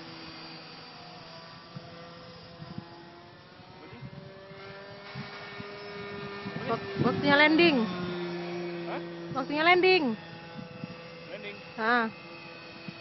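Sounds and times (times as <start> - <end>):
model airplane engine droning: 0.0 - 13.0.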